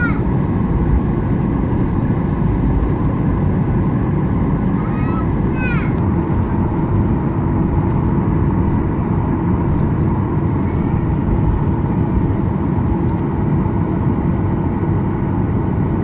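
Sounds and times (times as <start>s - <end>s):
jet engine cabin drone: 0.0s - 16.0s.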